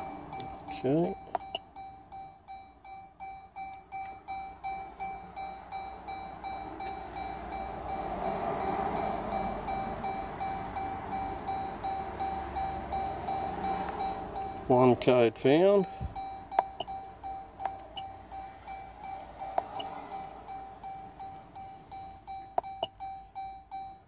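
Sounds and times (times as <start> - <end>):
electronic warning chime beeping: 0.0 - 15.1, 15.8 - 24.0.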